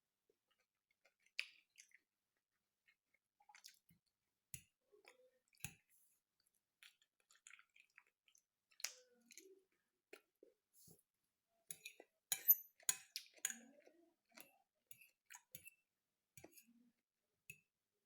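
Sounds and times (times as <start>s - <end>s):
soft chewing with mouth smacks: 0.2s - 17.7s.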